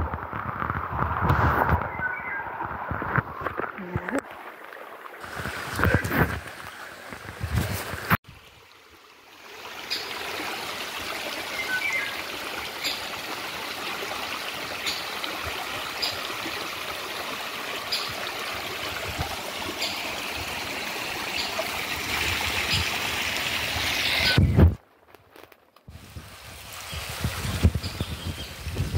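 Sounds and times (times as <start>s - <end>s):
stream trickling over stones: 0.0s - 28.9s.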